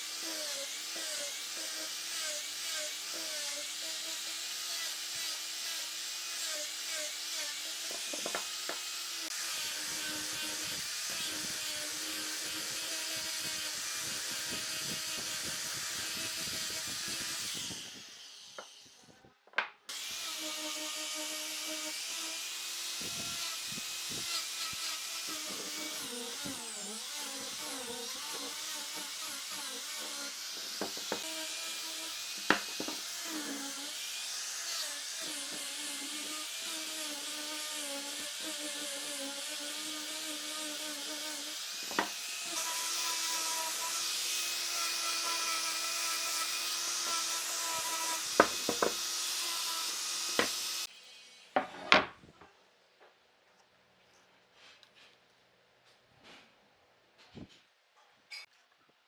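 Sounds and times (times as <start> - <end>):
power tool humming on wood: 0.0 - 18.6, 19.9 - 51.4.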